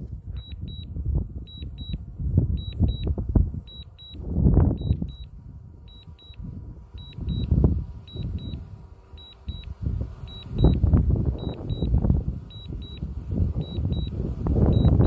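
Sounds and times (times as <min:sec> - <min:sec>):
wind gusts buffeting microphone: 0:00.0 - 0:15.0
drone warning double beeps: 0:00.4 - 0:15.0.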